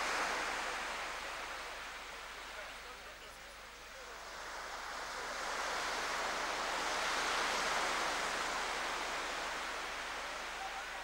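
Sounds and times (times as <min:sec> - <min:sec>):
waves breaking on a beach: 0:00.0 - 0:11.0.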